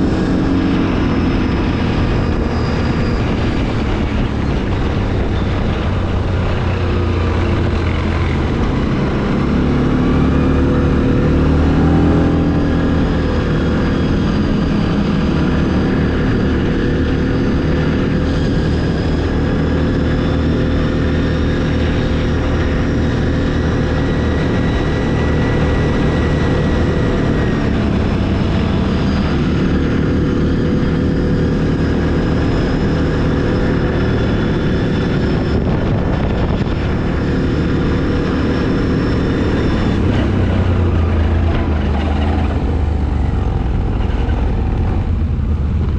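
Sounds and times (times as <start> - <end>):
quad bike engine revving: 0.0 - 45.9.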